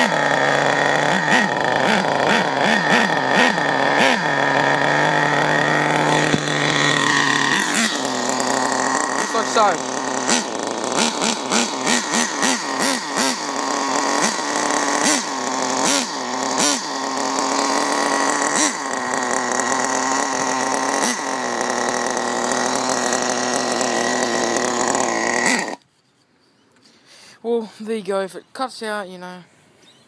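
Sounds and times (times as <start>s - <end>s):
small nitro engine buzzing: 0.0s - 25.8s.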